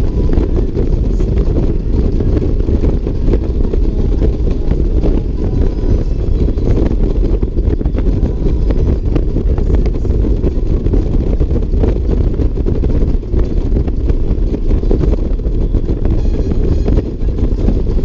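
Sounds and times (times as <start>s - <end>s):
motorcycle engine rumble: 0.0s - 18.0s
wind buffeting microphone: 0.0s - 18.0s.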